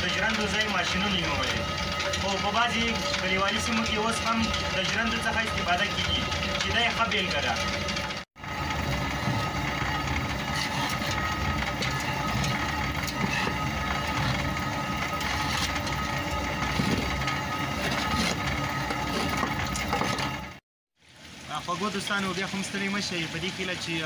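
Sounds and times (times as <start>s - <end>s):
millstone grinding grain: 0.0s - 20.6s.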